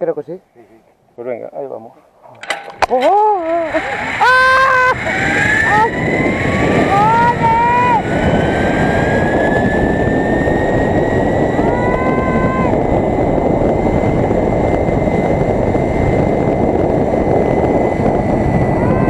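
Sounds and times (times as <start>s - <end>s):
pulley whining along cable: 2.4s - 19.0s
wind rushing over microphone: 2.4s - 19.0s.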